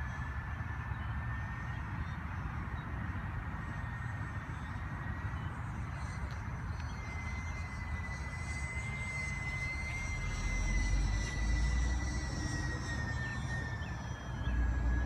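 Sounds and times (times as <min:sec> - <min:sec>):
model airplane motors whining: 0:00.0 - 0:15.0.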